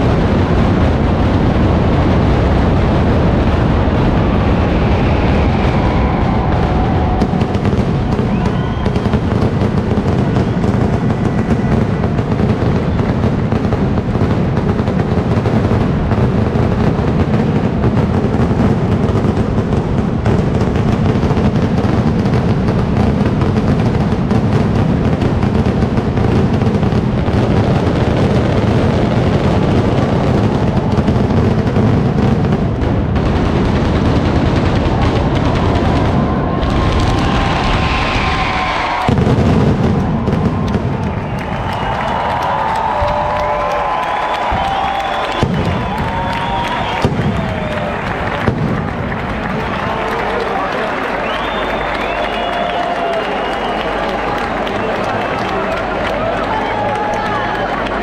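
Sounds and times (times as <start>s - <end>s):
firecracker barrage: 0.0s - 58.0s.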